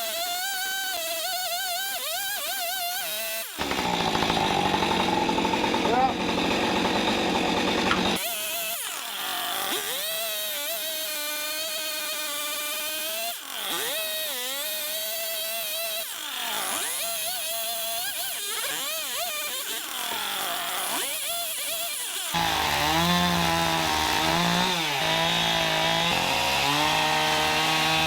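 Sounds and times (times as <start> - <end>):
chainsaw running at high revs: 0.0 - 28.0.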